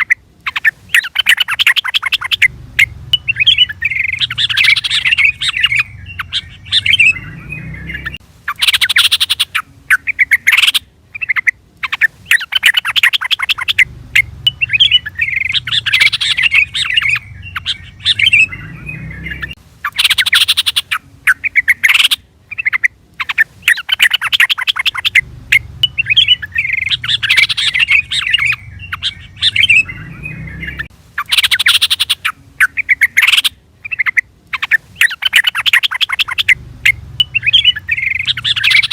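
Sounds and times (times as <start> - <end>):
bird song with harsh chattering: 0.0 - 38.9.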